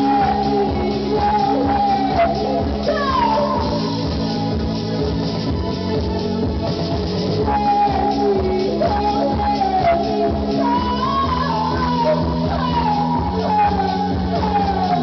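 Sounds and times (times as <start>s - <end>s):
bass guitar: 0.0s - 15.0s.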